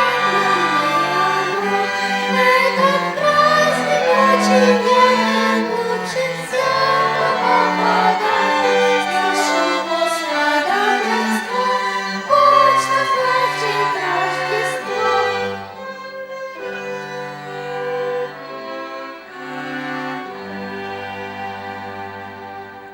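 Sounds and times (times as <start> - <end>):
violin ensemble playing: 0.0 - 22.9.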